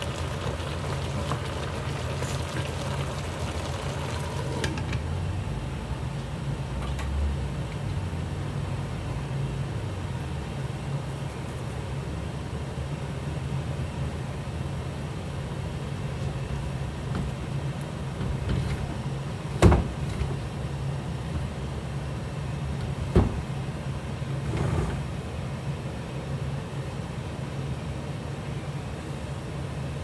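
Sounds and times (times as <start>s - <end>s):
pot simmering: 0.0s - 26.2s
low hum and hiss: 0.0s - 30.0s.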